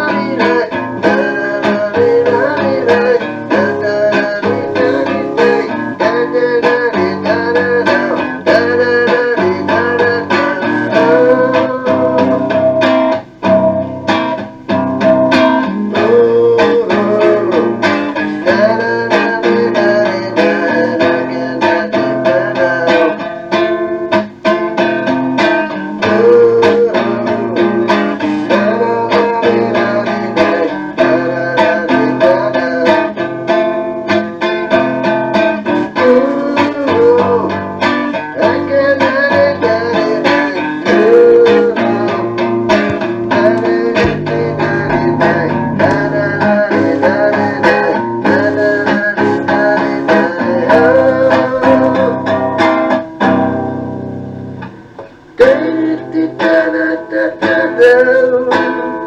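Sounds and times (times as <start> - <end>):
guitar song from cassette tape: 0.0 - 59.0.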